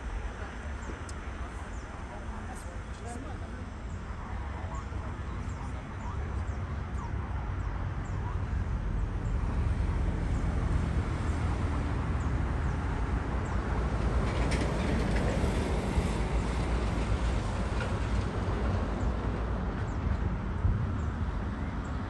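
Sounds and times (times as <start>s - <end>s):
jet engines deep rumble: 0.0s - 22.0s.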